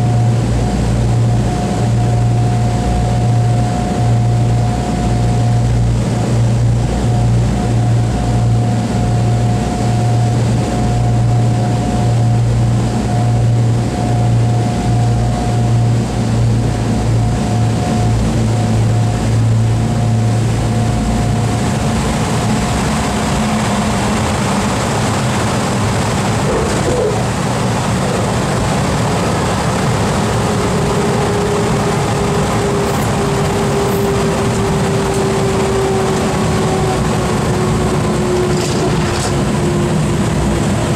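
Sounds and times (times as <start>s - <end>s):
piston aircraft engines droning: 0.0s - 40.9s.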